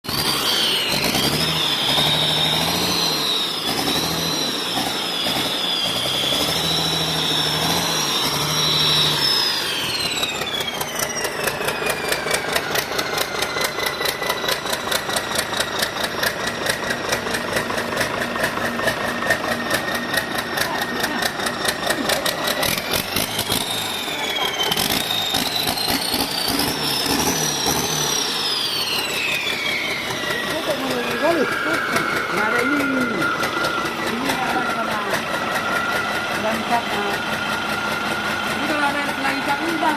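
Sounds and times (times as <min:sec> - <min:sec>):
diesel engine running: 0:00.0 - 0:39.9
turbo whine: 0:00.0 - 0:39.9.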